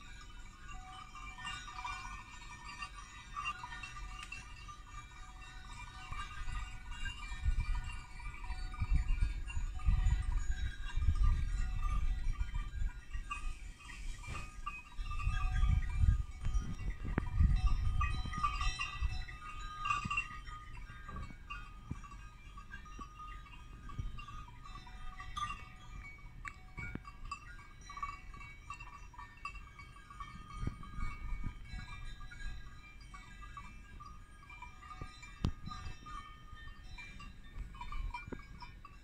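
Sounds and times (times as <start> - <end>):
goat bells clanking: 0.0 - 39.0.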